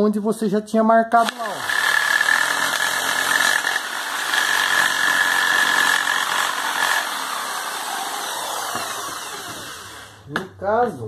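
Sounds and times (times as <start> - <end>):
electric jigsaw cutting: 1.2 - 10.2.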